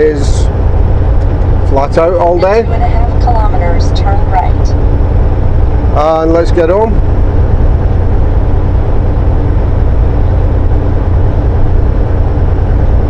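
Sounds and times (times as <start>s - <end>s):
diesel engine drone: 0.0s - 13.0s
road noise: 0.0s - 13.0s.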